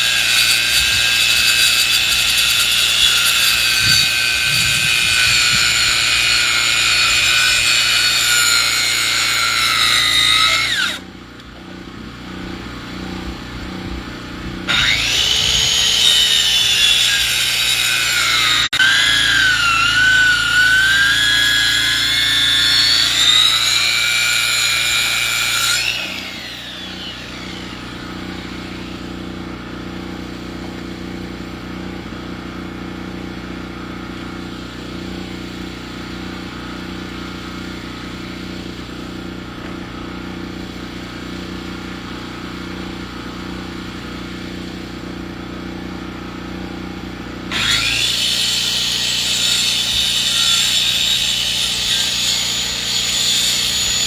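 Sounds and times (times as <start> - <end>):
powered saw cutting wood: 0.0 - 54.0.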